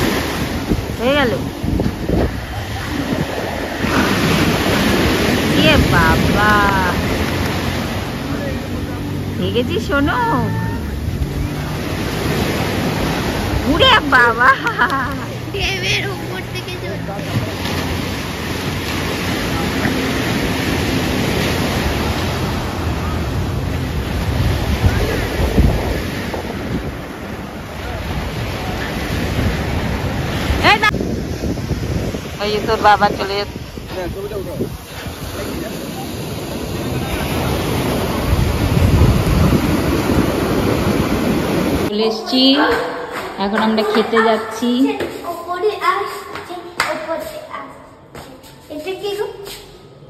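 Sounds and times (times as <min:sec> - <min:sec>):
surf breaking on a beach: 0:00.0 - 0:42.0
wind buffeting microphone: 0:00.0 - 0:45.8.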